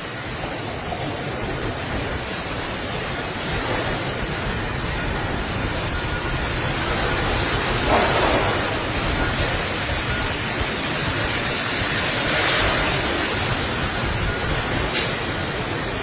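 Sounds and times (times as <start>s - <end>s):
strong storm wind blowing: 0.0s - 16.0s.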